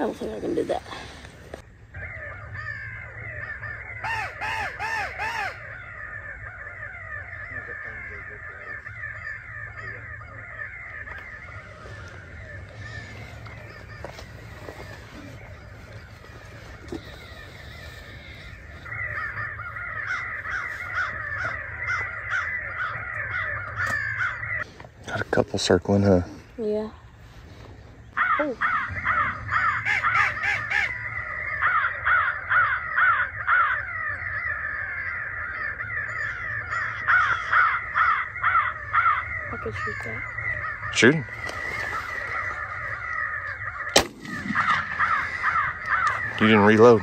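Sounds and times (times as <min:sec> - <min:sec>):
crows cawing: 0:00.0 - 0:25.8, 0:27.4 - 0:47.0.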